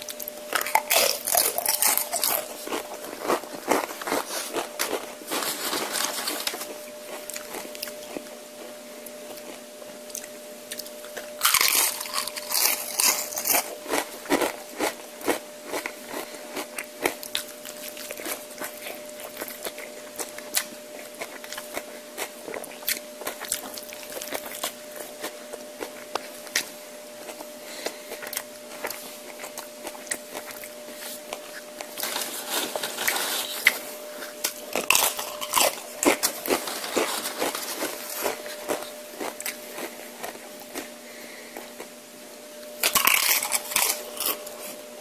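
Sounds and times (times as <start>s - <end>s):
faint steady hum: 0.0s - 45.0s
man chewing and crunching food: 0.0s - 45.0s.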